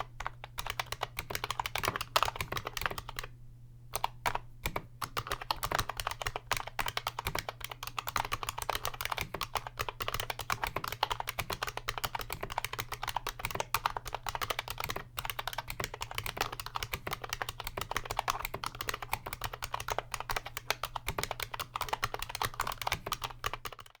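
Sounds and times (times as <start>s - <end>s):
fast typing on mechanical keyboard: 0.0s - 3.3s, 4.0s - 24.0s.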